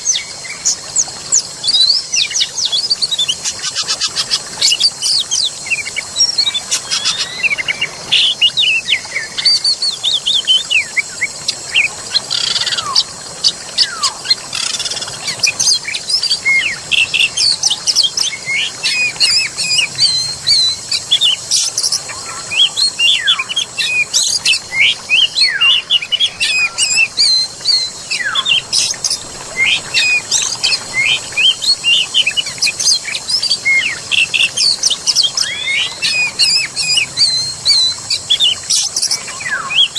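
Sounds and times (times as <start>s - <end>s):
songbirds chirping and whistling: 0.0s - 39.9s
steady high hiss: 0.0s - 39.9s.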